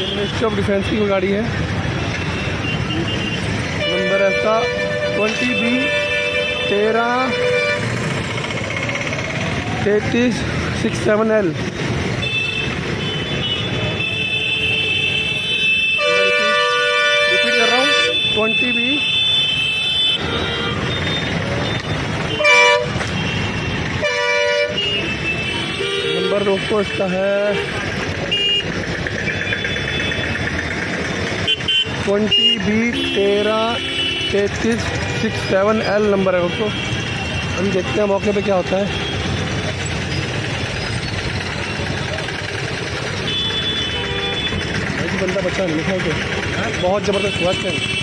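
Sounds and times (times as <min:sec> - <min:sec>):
idling engines rumbling: 0:00.0 - 0:48.0
vehicle horns honking: 0:02.0 - 0:08.2, 0:12.1 - 0:30.5, 0:31.2 - 0:45.0, 0:46.7 - 0:48.0.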